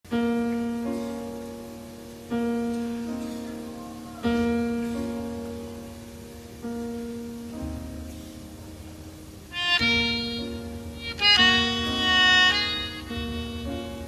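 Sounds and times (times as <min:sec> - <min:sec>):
slow plucked notes: 0:00.1 - 0:14.0.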